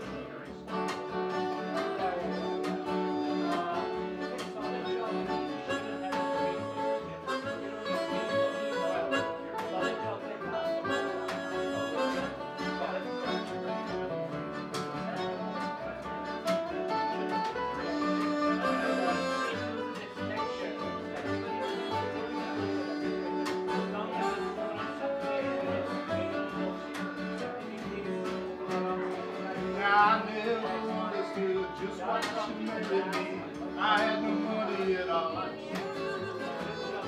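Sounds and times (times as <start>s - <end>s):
acoustic guitars strumming: 0.0s - 37.0s
harmonica lead: 0.5s - 28.8s, 33.6s - 37.0s.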